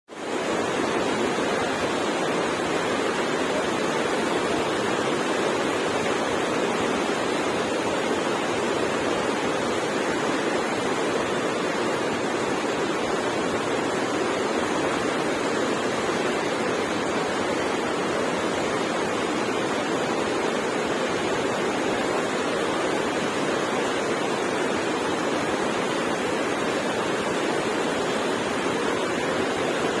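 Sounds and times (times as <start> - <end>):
fast-flowing river water rushing: 0.1 - 30.0.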